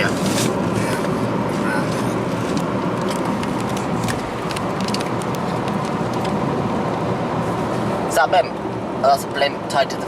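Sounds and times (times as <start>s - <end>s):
car cabin road noise: 0.0s - 10.0s.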